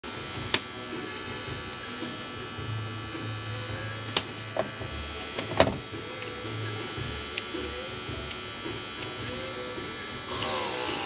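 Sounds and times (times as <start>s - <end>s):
electric hair clipper buzzing: 0.1s - 11.0s.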